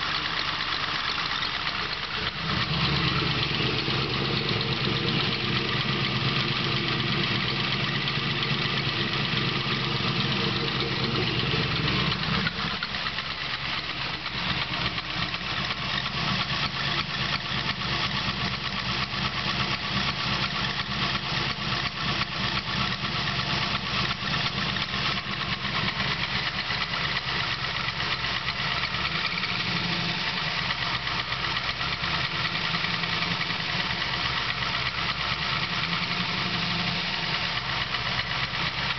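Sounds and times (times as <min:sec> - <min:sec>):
engine idling with ticking knock: 0:00.0 - 0:38.9.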